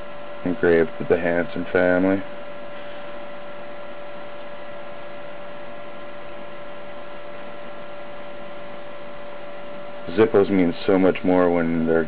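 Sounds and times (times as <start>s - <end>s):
electrical hum with whine and hiss: 0.0s - 12.0s.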